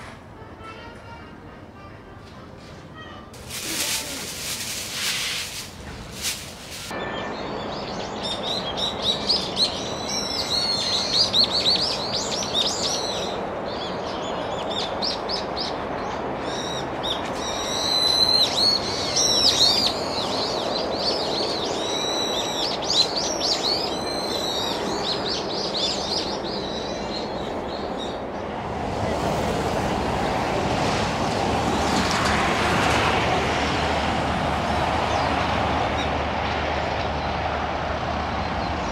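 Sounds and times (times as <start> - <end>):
distant traffic hum: 0.0 - 38.9.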